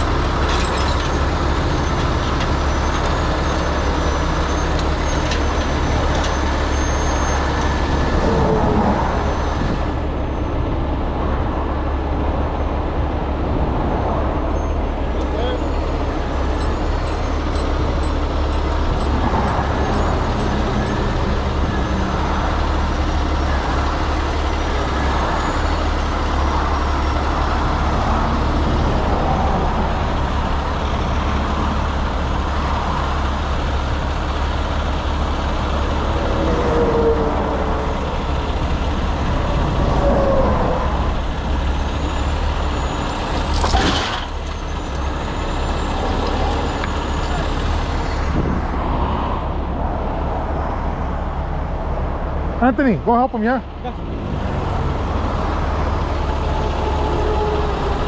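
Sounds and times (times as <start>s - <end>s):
truck diesel engine rumbling: 0.0s - 58.0s.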